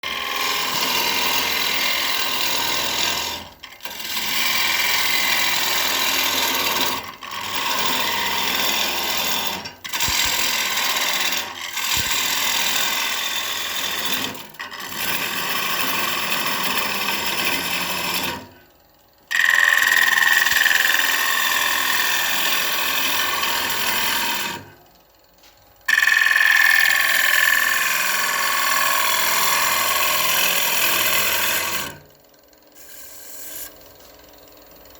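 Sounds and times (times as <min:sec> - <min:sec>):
gouge scraping wood on lathe: 0:00.0 - 0:18.5, 0:19.3 - 0:24.6, 0:25.9 - 0:32.1, 0:32.8 - 0:33.9.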